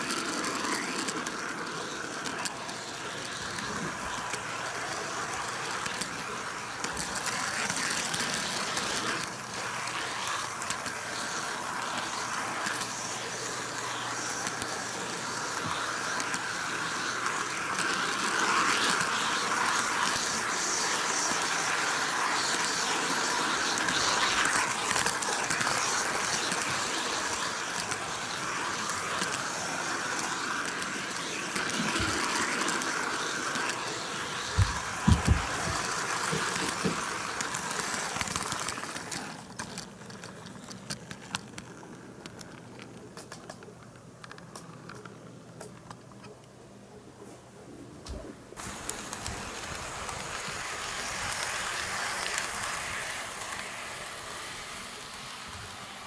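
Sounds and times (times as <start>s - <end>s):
small metal wheels on rails: 0.0s - 46.5s, 48.1s - 56.0s
model railcars clicking: 0.0s - 46.6s, 48.1s - 56.0s.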